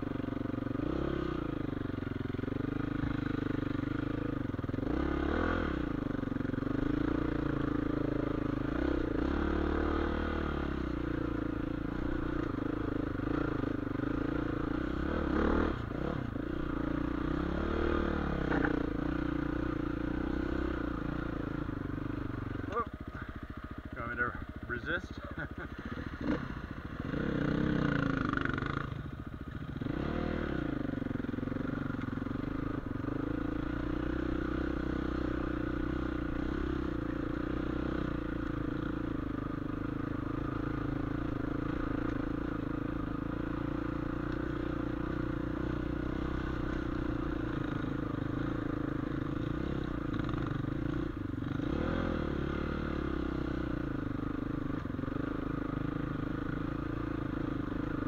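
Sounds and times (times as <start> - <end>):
dirt bike engine revving: 0.0 - 23.4, 24.4 - 29.0, 29.6 - 58.0.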